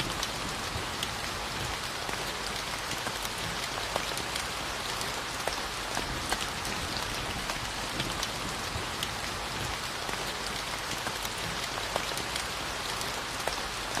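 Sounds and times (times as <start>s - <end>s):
rain hissing on a surface: 0.0s - 14.0s
raindrops ticking: 0.0s - 14.0s.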